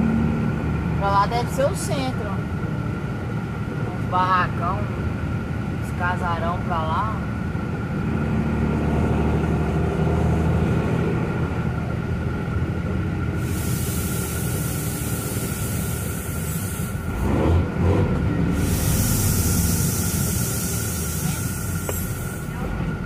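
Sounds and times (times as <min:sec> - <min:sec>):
diesel truck engine running: 0:00.0 - 0:23.0
road noise: 0:00.0 - 0:23.0.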